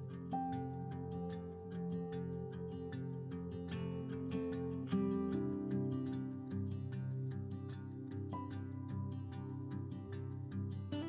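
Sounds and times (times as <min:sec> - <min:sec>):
soft guitar music: 0:00.0 - 0:11.0.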